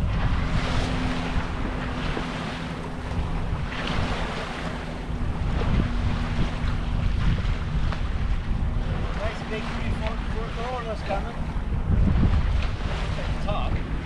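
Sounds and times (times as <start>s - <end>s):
water rushing along a hull: 0.0s - 14.0s
wind buffeting microphone: 0.0s - 14.0s.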